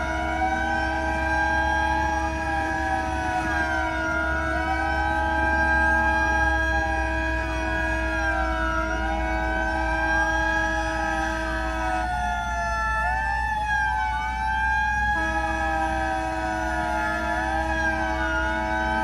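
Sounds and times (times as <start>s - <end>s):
fire truck sirens wailing: 0.0s - 19.0s.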